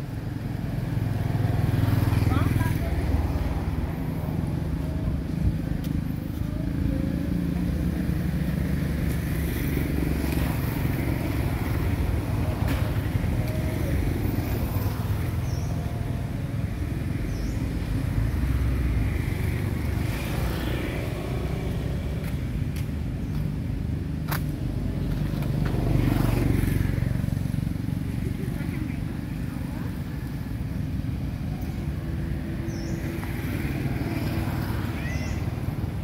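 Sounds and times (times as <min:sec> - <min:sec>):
motor vehicles rumbling: 0:00.0 - 0:36.0.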